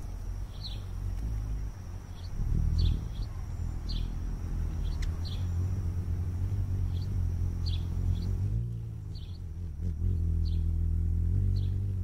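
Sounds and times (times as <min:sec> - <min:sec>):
hummingbird chip notes: 0:00.0 - 0:12.0
steady low hum: 0:00.0 - 0:12.0.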